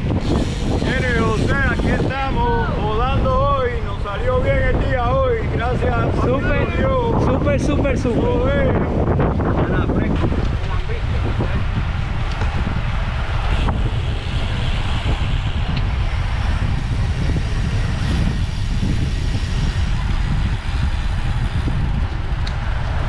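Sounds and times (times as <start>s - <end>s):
road noise hiss: 0.0s - 23.0s
wind buffeting microphone: 0.0s - 23.0s.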